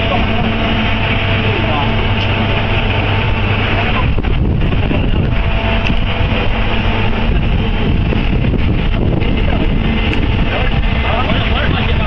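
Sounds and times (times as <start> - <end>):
heavy machine engine running: 0.0 - 12.0
wind buffeting microphone: 0.0 - 12.0.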